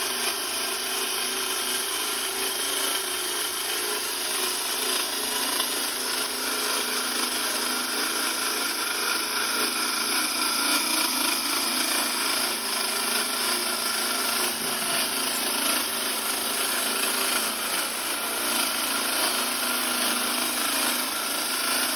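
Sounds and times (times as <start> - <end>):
core drill whirring: 0.0 - 21.9.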